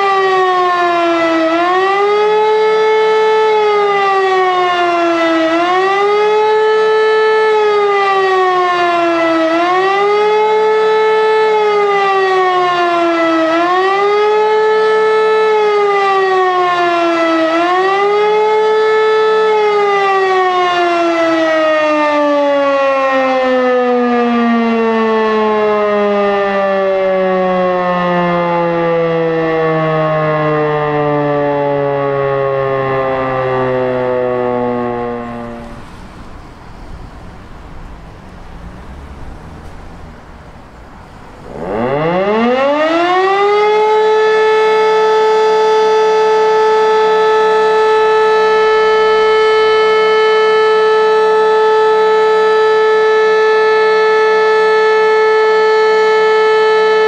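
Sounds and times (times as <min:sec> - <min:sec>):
wailing warning siren: 0:00.0 - 0:57.0.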